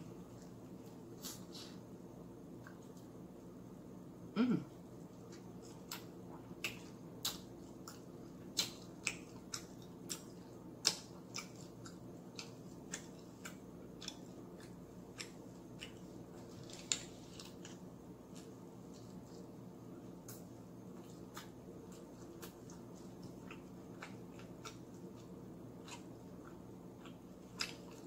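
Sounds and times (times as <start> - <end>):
faint steady hum: 0.0 - 28.0
person chewing food: 4.9 - 28.0.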